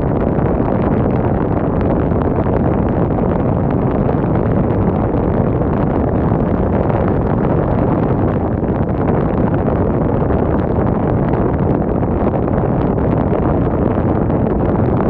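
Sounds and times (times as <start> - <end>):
wind blowing on microphone: 0.0 - 15.0.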